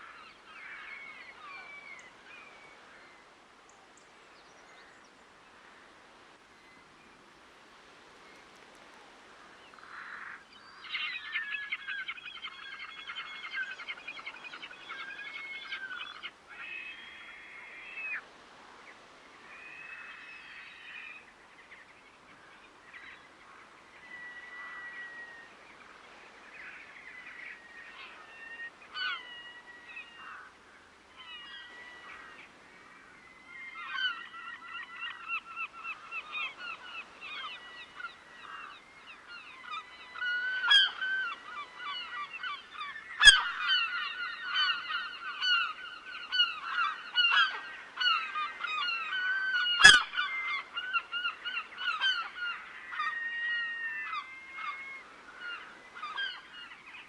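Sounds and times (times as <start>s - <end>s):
birds calling over water: 7.8s - 57.0s.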